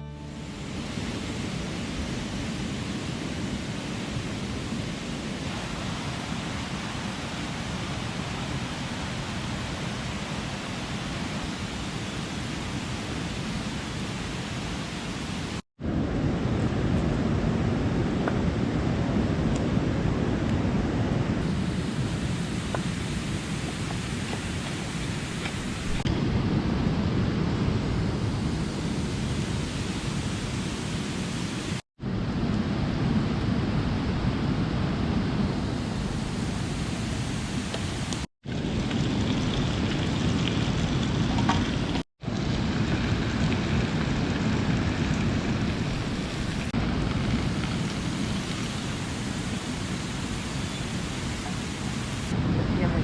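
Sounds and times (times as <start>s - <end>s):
mountain stream rushing: 0.0s - 15.6s, 16.2s - 26.1s, 27.6s - 31.8s, 32.7s - 53.0s.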